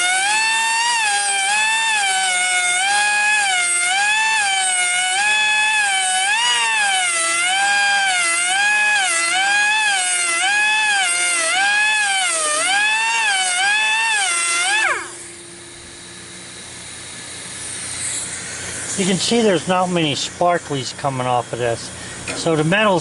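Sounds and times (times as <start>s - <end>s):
grinder spinning down: 0.0s - 19.7s
electric grinder whining: 0.0s - 19.8s.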